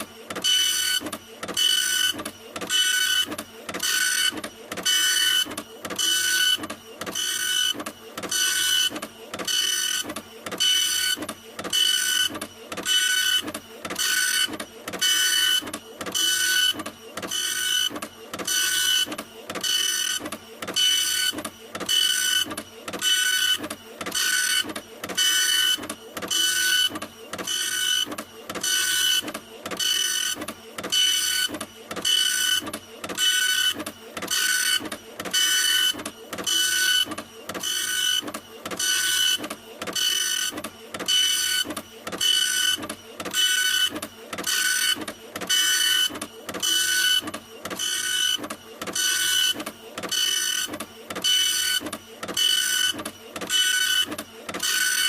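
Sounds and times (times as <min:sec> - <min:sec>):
printer mechanical whir: 0:00.0 - 0:55.0.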